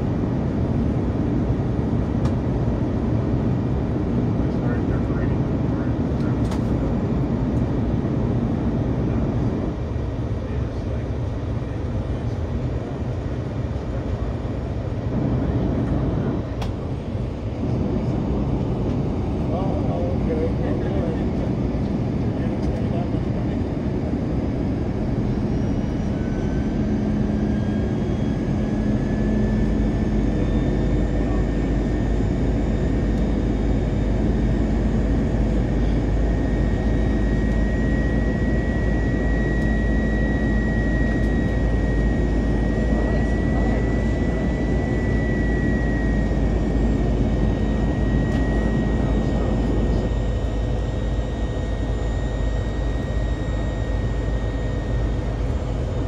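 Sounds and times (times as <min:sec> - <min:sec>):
jet engine and airflow drone: 0:00.0 - 0:56.0
faint whine: 0:04.4 - 0:56.0.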